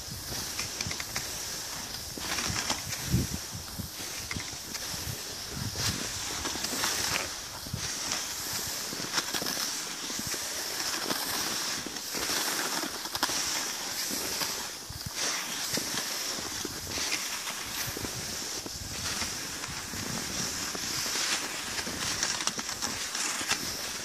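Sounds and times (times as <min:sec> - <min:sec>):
ski pole strokes: 0:00.0 - 0:24.0
skis hissing on snow: 0:00.0 - 0:24.0.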